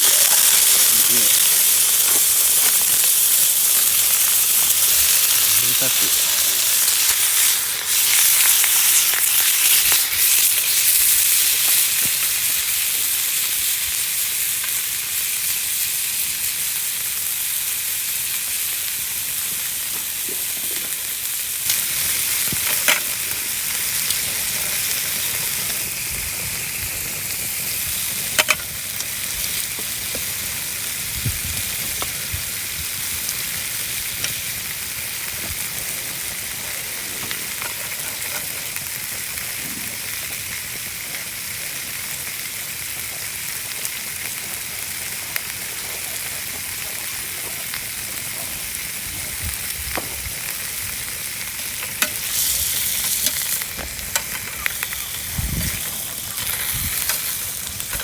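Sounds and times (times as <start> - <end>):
sausages sizzling over campfire: 0.0 - 58.0.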